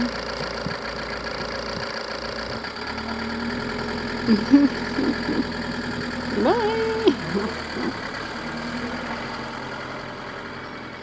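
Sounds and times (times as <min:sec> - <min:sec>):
van engine running: 0:00.0 - 0:11.0.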